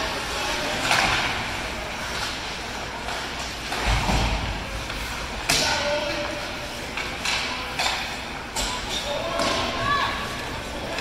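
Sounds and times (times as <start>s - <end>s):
arena noise: 0.0s - 11.0s.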